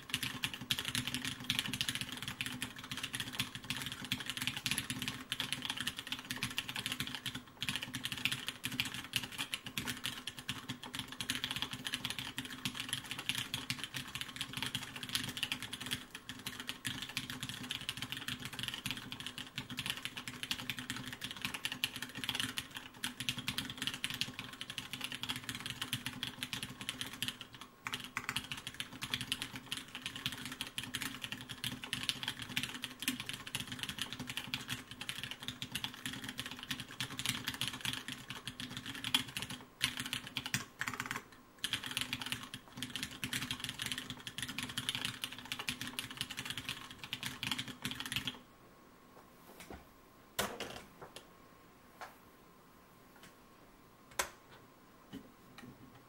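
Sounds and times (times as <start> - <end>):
mechanical keyboard typing: 0.0 - 48.4.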